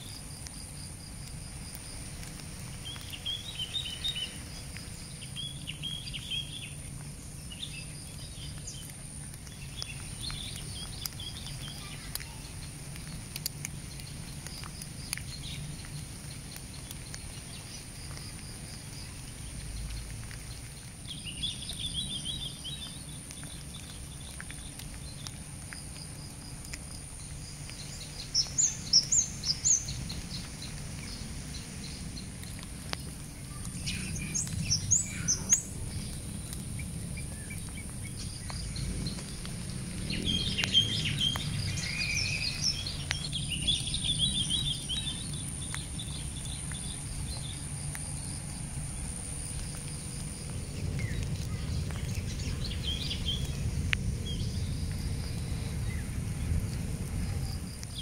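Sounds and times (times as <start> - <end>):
birds chirping: 1.6 - 56.2.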